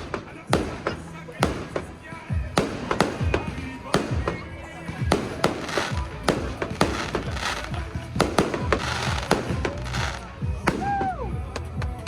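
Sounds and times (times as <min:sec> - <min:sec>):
fireworks bangs: 0:00.0 - 0:11.7
fireworks crackling: 0:00.0 - 0:12.0.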